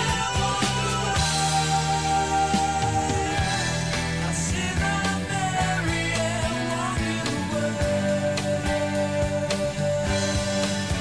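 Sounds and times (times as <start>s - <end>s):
song with singing and beat: 0.0s - 11.0s.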